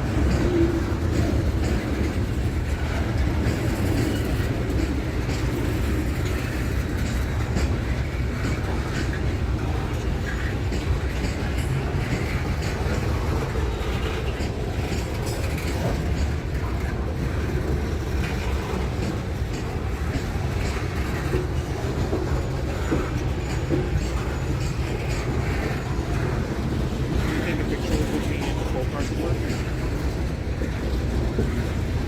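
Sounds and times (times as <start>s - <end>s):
train cars rumbling past: 0.0s - 32.0s
wheels clicking over rail joints: 0.0s - 32.0s.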